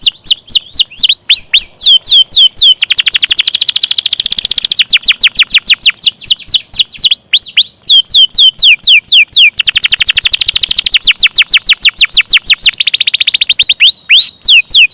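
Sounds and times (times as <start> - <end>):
canary singing trills: 0.0 - 14.9.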